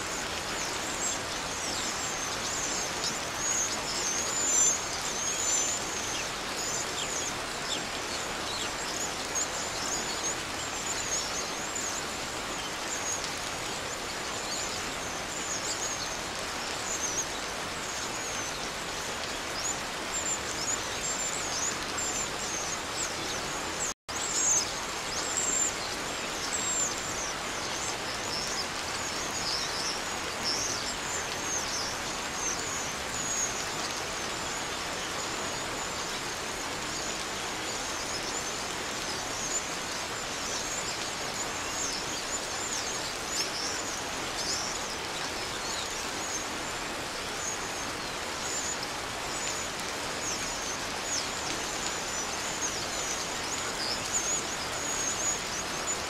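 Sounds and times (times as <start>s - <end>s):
small birds chirping: 0.0s - 56.0s
steady hiss: 0.0s - 56.0s.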